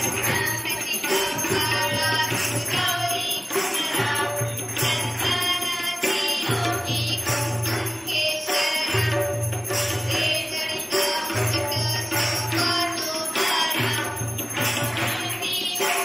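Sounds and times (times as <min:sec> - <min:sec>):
jingling percussion: 0:00.0 - 0:16.0
person singing devotional song: 0:00.0 - 0:16.0.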